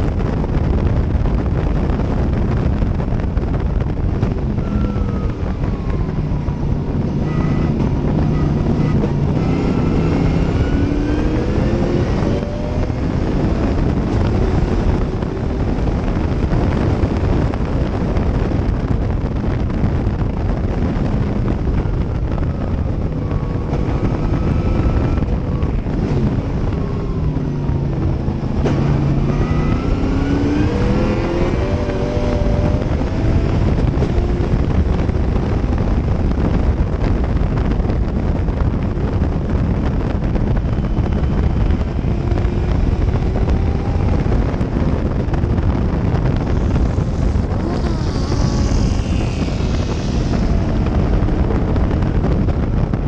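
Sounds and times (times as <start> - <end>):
wind noise: 0.0 - 53.0
race car engine revving: 0.1 - 53.0.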